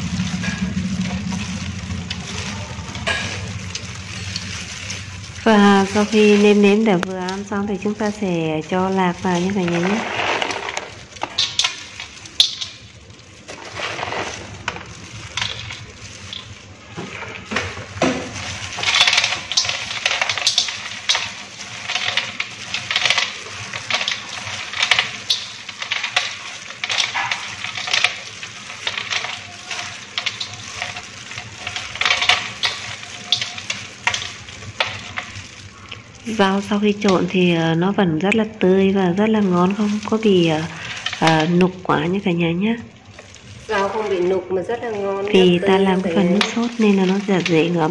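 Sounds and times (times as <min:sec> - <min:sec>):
peanuts clicking against metal bowl: 0:00.0 - 0:16.6, 0:17.5 - 0:47.9
leaves rustling: 0:00.0 - 0:47.9
plastic gloves crinkling: 0:00.0 - 0:47.9.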